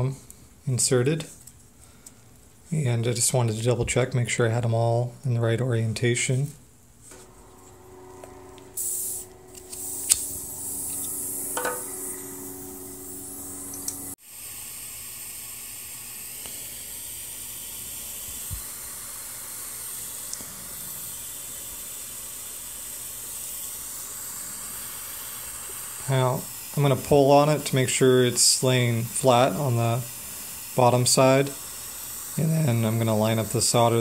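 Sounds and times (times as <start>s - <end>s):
steady even hiss: 0.0s - 34.0s.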